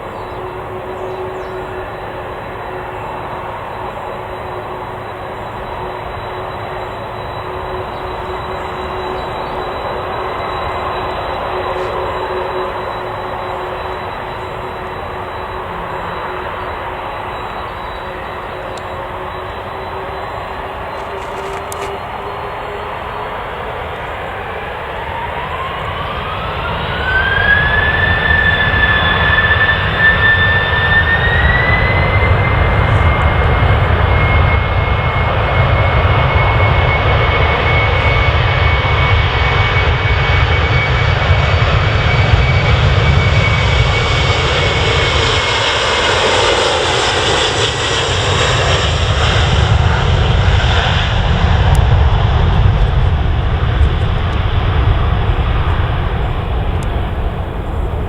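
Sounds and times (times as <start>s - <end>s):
engine whine: 0.0s - 58.0s
jet engines spooling up: 0.0s - 58.0s.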